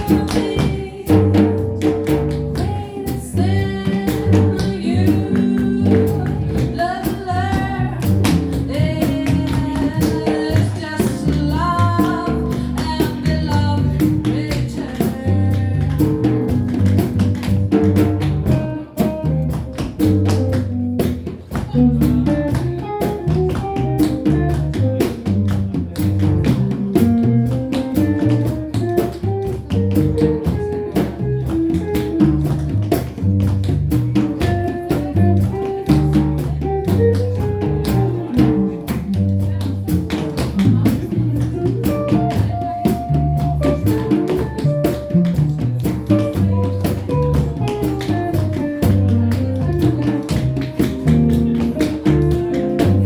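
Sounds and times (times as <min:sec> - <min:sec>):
jazz combo playing: 0:00.0 - 0:53.0.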